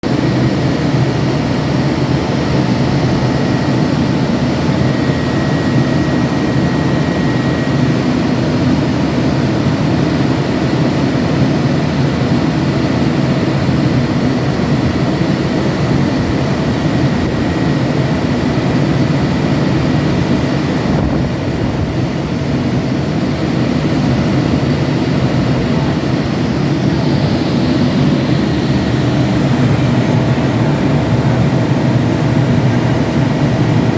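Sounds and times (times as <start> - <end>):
diesel generator droning: 0.0 - 33.9.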